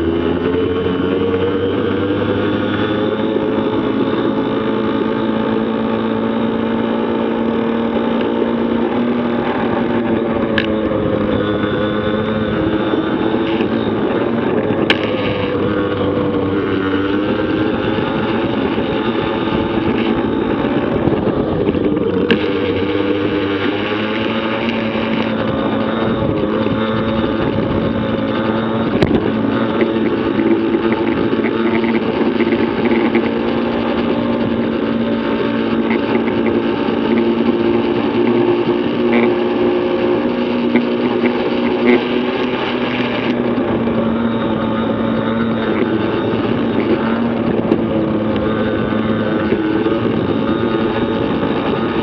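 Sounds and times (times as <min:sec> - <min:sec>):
small two-stroke engines revving: 0:00.0 - 0:52.0.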